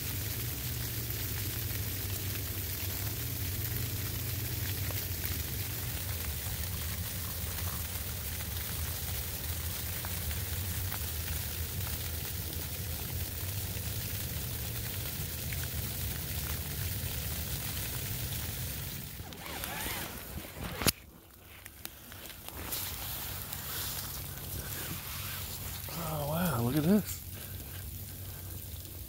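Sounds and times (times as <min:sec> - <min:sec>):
rain and sleet on a tarp: 0:00.0 - 0:29.0.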